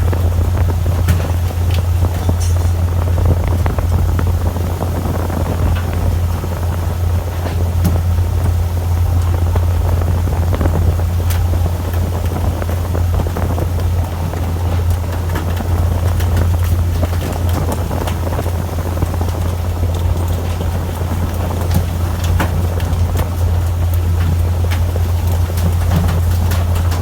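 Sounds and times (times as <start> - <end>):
boat engine droning: 0.0 - 27.0
wind: 0.0 - 27.0.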